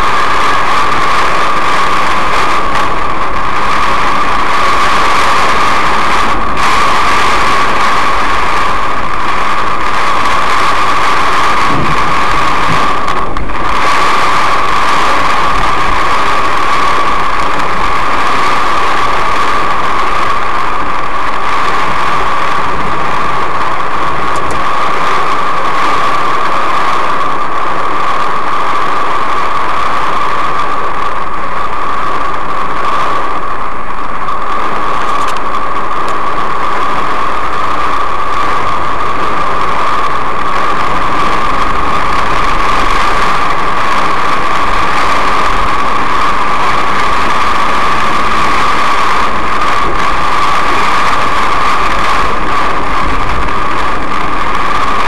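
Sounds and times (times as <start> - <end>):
rain on a car: 0.0 - 55.0
road and engine noise: 0.0 - 55.0.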